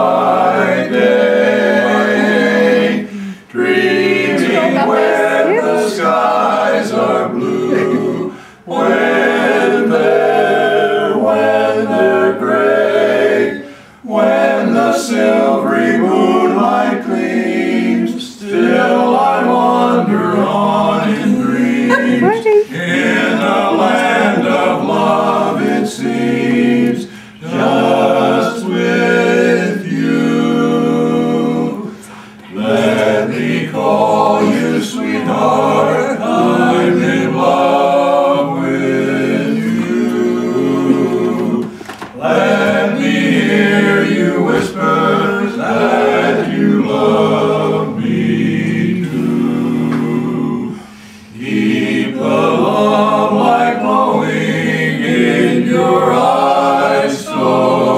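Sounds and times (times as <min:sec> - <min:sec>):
vocal quartet singing a cappella: 0:00.0 - 0:57.9.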